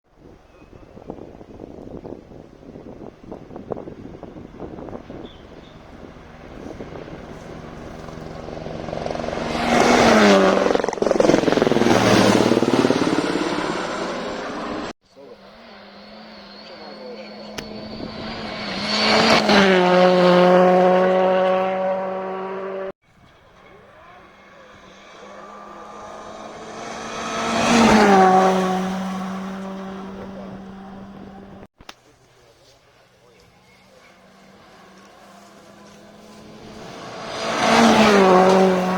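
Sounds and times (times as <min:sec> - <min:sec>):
rally car engine at full throttle: 0:01.1 - 0:22.9, 0:23.6 - 0:31.7, 0:33.7 - 0:38.9.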